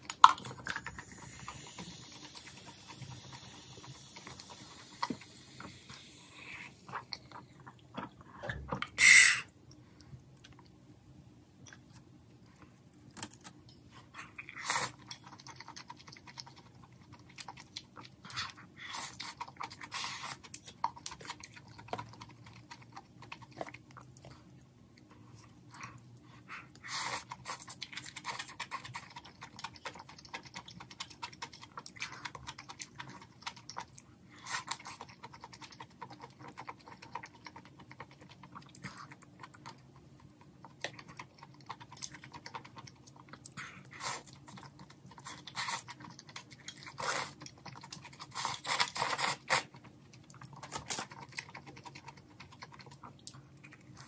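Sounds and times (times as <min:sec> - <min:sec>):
chewing and slurping: 0:00.0 - 0:10.8, 0:13.7 - 0:54.0.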